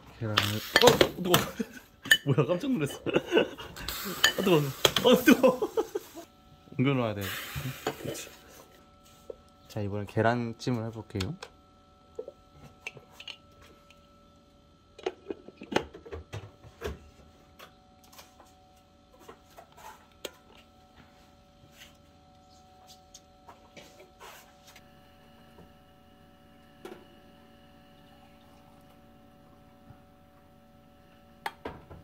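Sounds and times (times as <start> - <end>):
egg steamer humming: 0.0 - 32.0.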